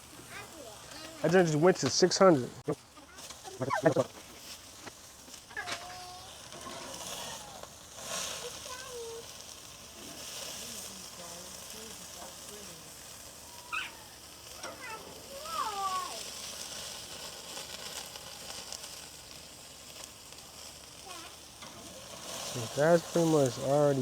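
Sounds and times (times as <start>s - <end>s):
food sizzling on a grill: 0.0s - 24.0s.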